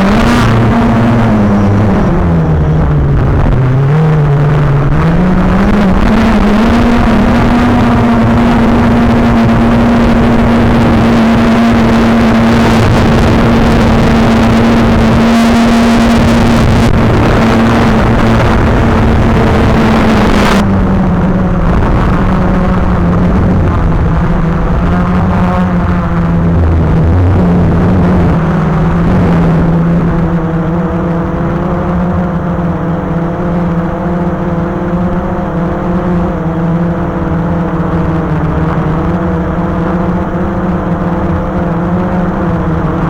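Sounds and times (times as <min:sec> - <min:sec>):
drone motors and propellers humming: 0:00.0 - 0:43.0.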